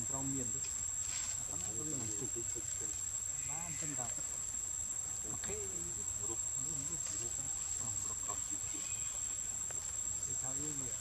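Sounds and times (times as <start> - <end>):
faint wavering voices: 0.0 - 11.0
insect drone: 0.0 - 11.0.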